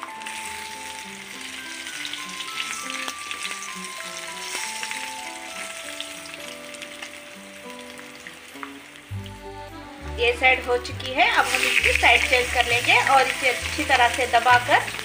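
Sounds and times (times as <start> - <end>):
egg frying in oil: 0.0 - 9.4, 11.1 - 15.0
soft background music: 0.0 - 15.0.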